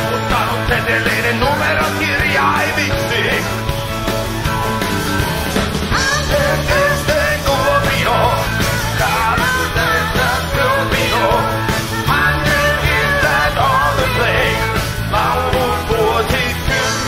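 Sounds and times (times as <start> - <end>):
person singing: 0.0 - 3.6, 5.9 - 17.0
rock band playing: 0.0 - 17.0.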